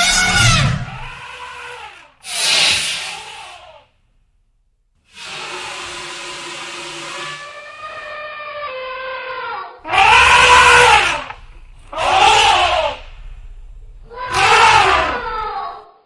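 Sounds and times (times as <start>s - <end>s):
elephant trumpeting: 0.0s - 3.9s, 5.1s - 13.3s, 14.0s - 15.8s.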